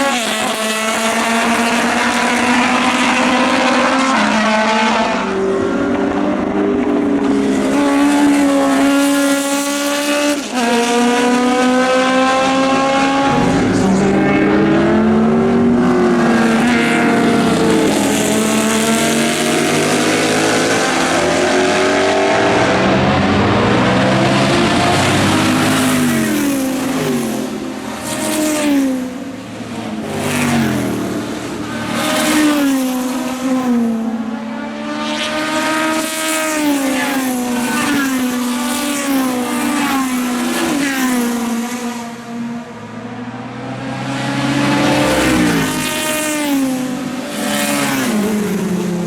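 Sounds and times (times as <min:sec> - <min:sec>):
racing car engines revving past: 0:00.0 - 0:49.0.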